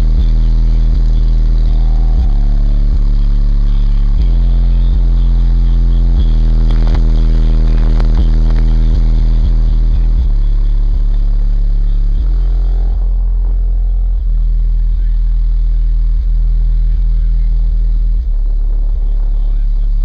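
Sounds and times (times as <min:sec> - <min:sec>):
deep subwoofer bass notes: 0:00.0 - 0:20.0.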